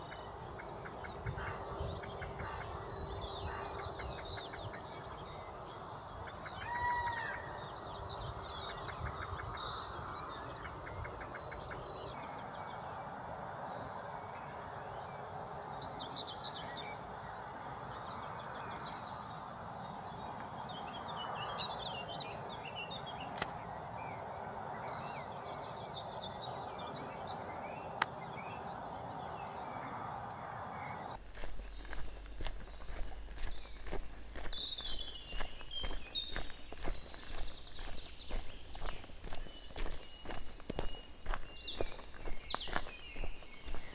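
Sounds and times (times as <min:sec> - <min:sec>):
songbirds trilling: 0:00.0 - 0:43.9.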